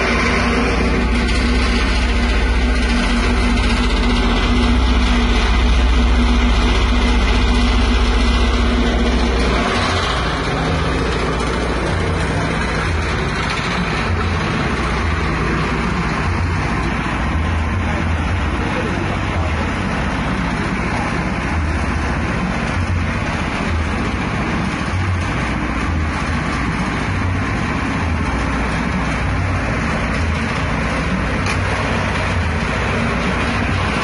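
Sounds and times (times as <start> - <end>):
feed mixer running: 0.0 - 34.0.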